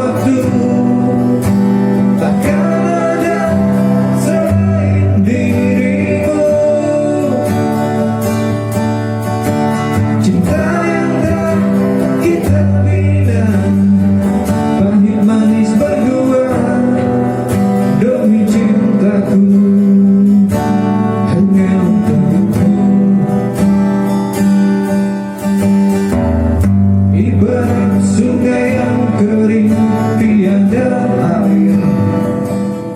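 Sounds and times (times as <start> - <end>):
person singing: 0.0 - 8.2, 10.0 - 23.6, 27.1 - 32.4
acoustic guitar strumming: 0.0 - 32.9.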